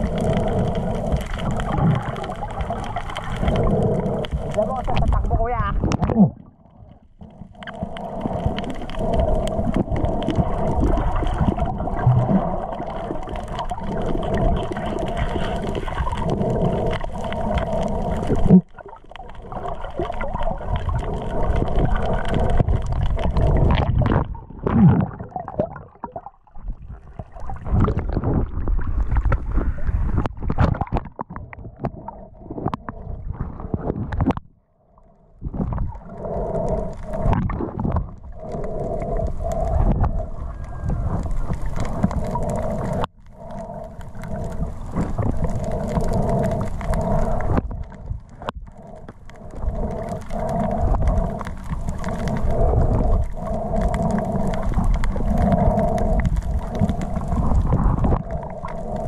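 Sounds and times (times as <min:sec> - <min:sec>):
underwater rumble: 0:00.0 - 0:59.0.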